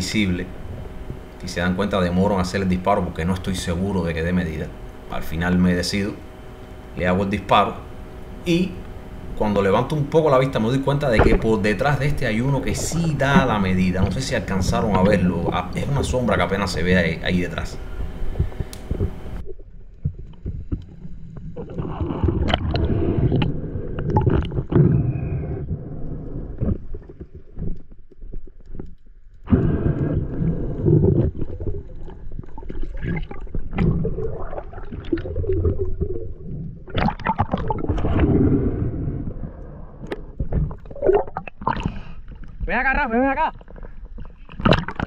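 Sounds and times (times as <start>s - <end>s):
underwater water gurgling: 0.0s - 42.7s, 43.5s - 45.0s.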